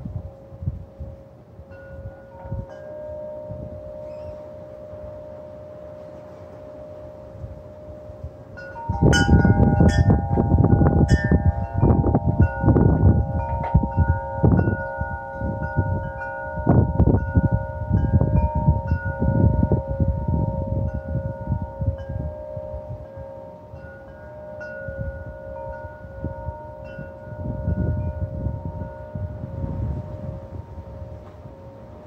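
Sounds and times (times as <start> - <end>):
gusts of wind rumbling: 0.0 - 32.0
metal wind chimes ringing: 0.1 - 32.0.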